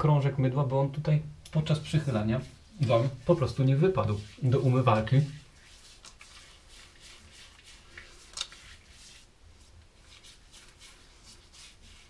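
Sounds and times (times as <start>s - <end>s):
wet rubbing of hands: 1.8s - 12.0s.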